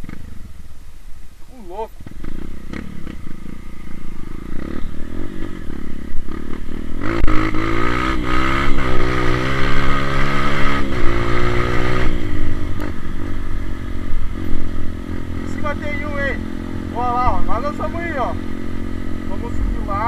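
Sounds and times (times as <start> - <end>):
motorcycle engine revving: 0.0 - 0.6, 1.7 - 20.0.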